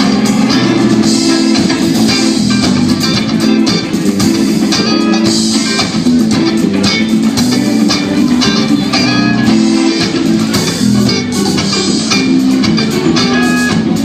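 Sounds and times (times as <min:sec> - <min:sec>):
live band led by guitar: 0:00.0 - 0:14.0.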